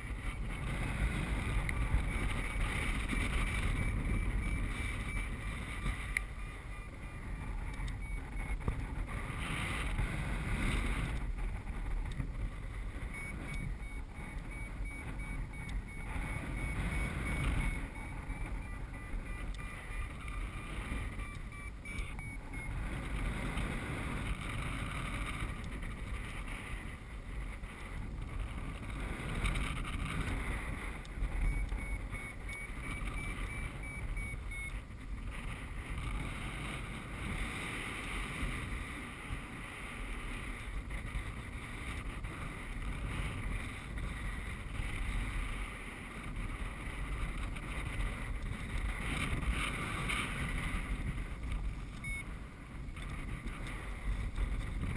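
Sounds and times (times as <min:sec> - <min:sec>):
airflow buffeting microphone: 0:00.0 - 0:54.9.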